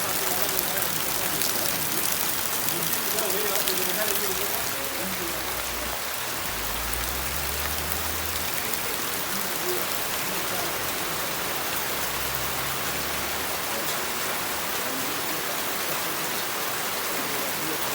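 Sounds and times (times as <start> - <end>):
steady rain falling: 0.0 - 17.9.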